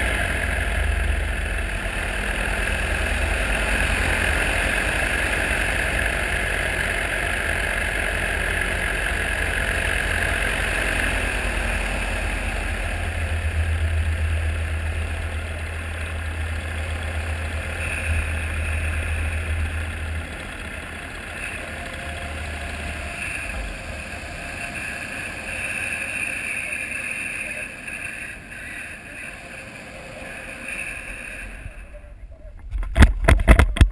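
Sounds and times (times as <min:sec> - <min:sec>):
paramotor engine droning: 0:00.0 - 0:33.9.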